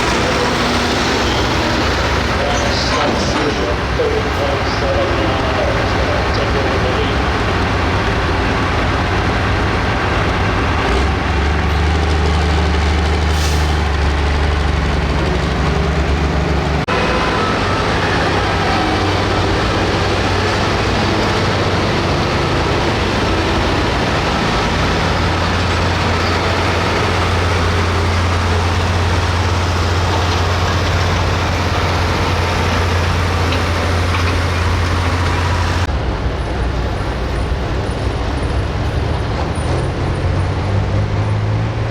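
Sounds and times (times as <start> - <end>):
tractor engines running hard: 0.0 - 41.9.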